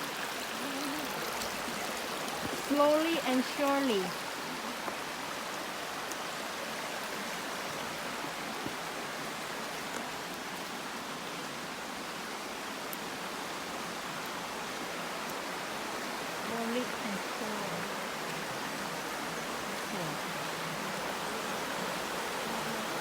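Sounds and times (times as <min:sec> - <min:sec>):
water flowing over rocks: 0:00.0 - 0:23.0.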